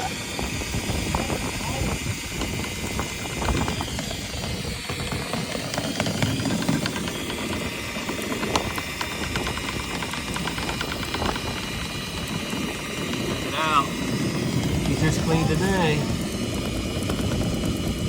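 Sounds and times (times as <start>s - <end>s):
vent cleaning equipment running: 0.0s - 18.0s.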